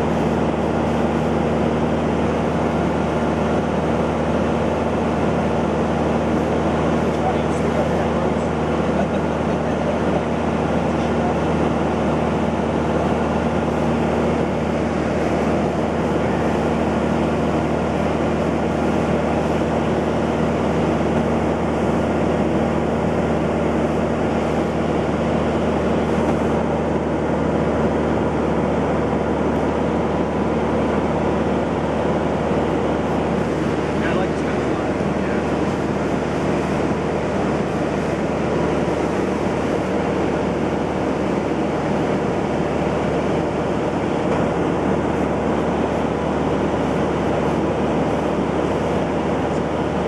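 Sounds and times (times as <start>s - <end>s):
propeller airplane engine drone: 0.0s - 50.0s.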